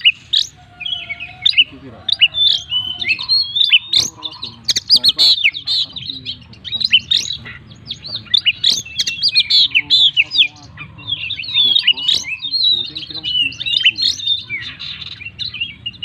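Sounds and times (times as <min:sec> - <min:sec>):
bird singing varied chirps: 0:00.0 - 0:16.0.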